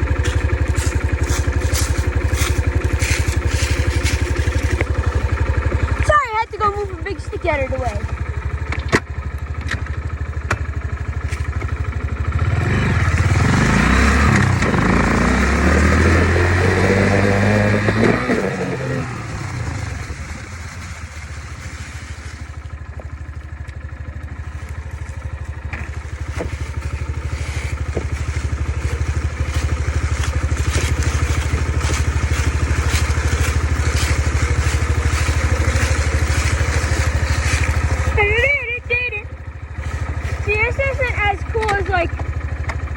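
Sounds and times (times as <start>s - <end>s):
dirt bike engine revving: 0.0s - 8.3s, 12.1s - 22.6s, 24.3s - 42.2s.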